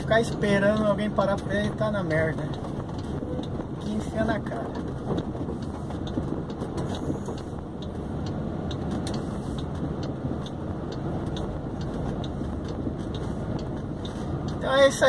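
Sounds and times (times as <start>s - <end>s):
diesel engine: 0.0s - 15.0s
road noise: 0.0s - 15.0s
faint ticks: 0.2s - 15.0s.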